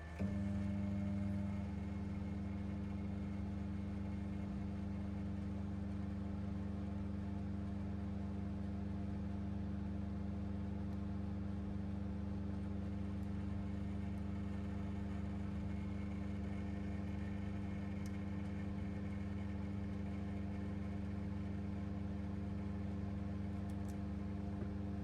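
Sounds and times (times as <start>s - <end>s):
steady machine hum: 0.0s - 25.0s.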